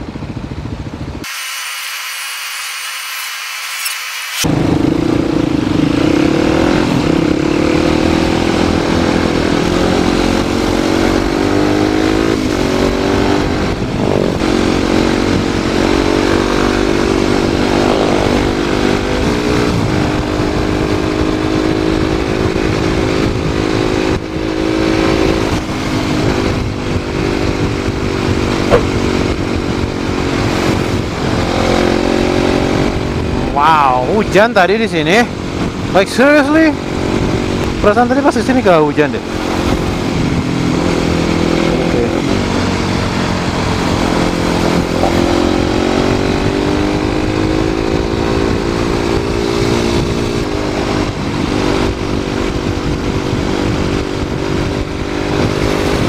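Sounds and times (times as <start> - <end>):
low wind rumble on microphone: 0.0 - 1.3, 4.4 - 56.0
motorcycle engine running: 0.0 - 1.9, 3.8 - 33.6, 34.2 - 56.0.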